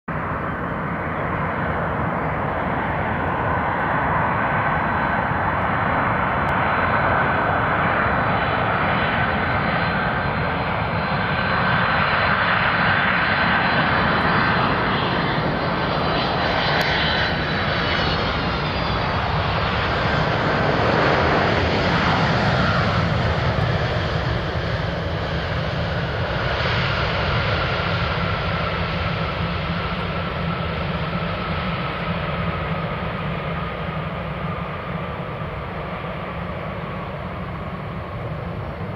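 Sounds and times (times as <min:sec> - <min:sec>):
jet engines whining: 0:00.1 - 0:38.9.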